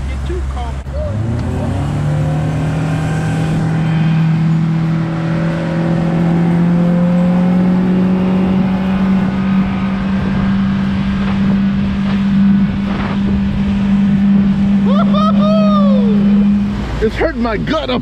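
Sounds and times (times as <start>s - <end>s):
motorboat engine drone: 0.8s - 17.1s.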